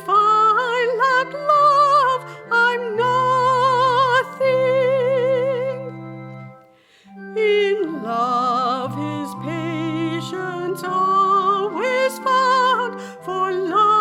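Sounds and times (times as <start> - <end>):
held accompaniment chords: 0.0 - 14.0
person singing a hymn: 0.0 - 14.0.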